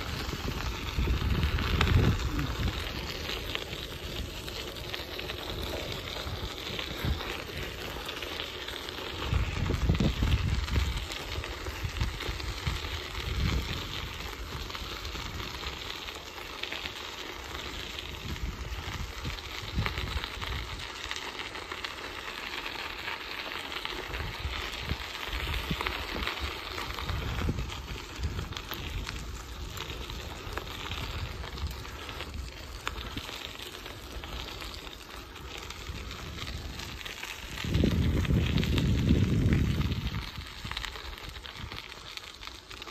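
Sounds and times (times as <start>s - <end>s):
wind buffeting microphone: 0.0s - 15.9s, 17.7s - 20.9s, 24.0s - 41.9s
bicycle tyres rolling on gravel: 0.0s - 42.9s.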